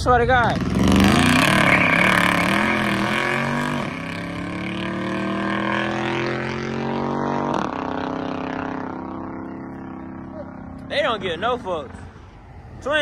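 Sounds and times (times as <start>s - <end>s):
car engine accelerating hard: 0.4s - 12.7s.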